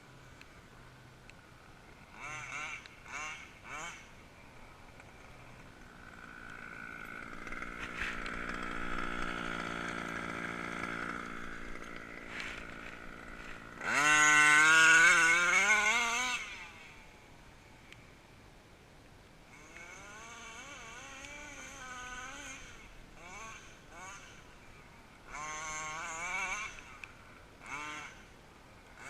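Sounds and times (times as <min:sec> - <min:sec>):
rc car engine revving: 0:02.0 - 0:17.3, 0:19.5 - 0:29.0.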